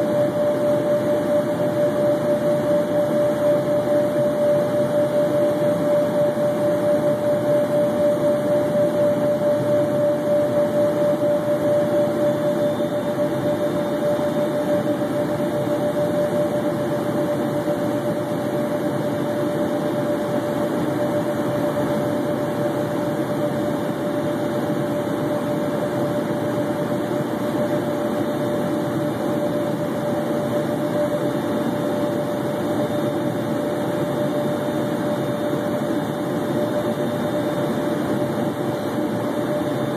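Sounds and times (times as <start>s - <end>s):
jet engines: 0.0s - 39.9s.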